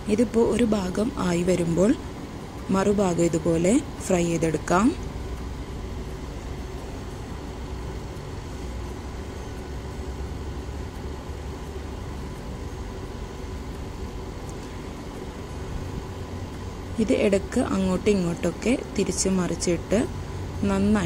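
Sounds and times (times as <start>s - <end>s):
constant low rumble: 0.0s - 21.0s.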